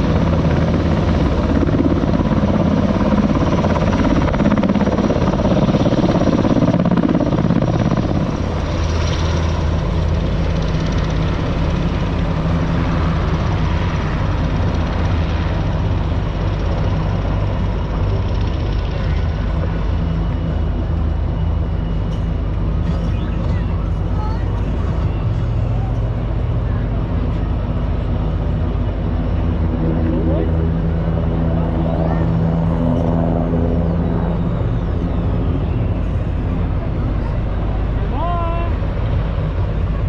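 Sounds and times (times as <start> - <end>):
helicopter flying past: 0.0 - 40.0.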